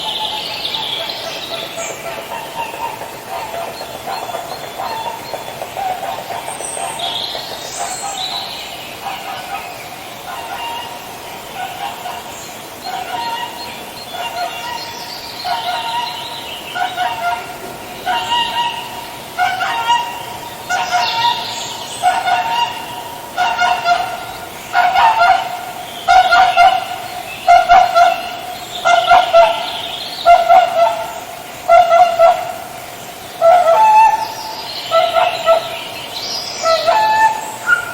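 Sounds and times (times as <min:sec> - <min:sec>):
swans honking: 0:00.0 - 0:37.9.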